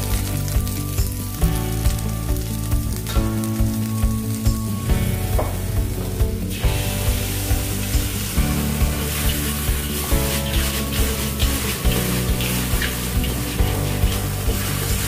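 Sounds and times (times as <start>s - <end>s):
background music with steady beat: 0.0s - 15.0s
food sizzling in a pan: 0.0s - 15.0s.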